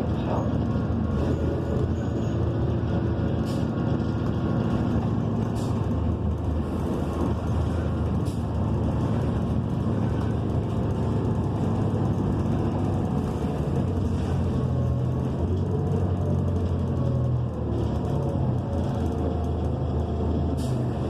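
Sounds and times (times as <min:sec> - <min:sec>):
bus engine rumble from inside: 0:00.0 - 0:21.0.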